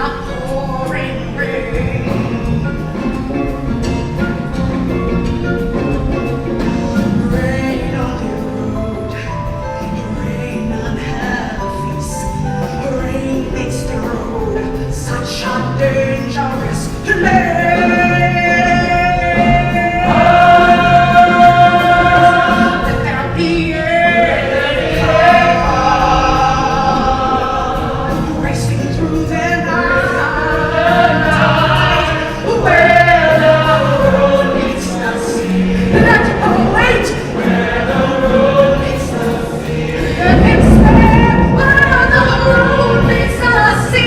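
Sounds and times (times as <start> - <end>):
ensemble singing in chorus: 0.0 - 44.0
instrumental accompaniment: 0.0 - 44.0.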